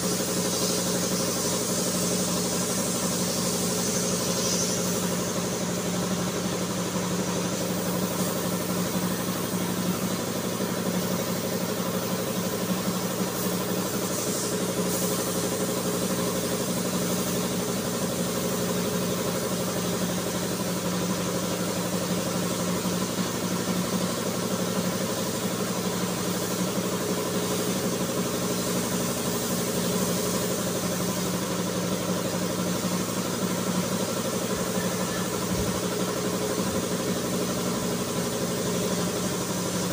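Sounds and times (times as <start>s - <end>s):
motor humming with hiss: 0.0s - 39.9s.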